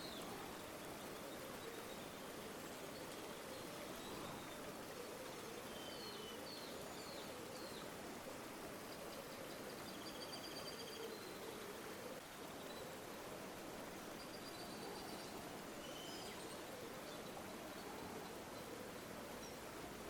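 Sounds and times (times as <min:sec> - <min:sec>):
river flowing: 0:00.0 - 0:10.0, 0:11.0 - 0:20.0.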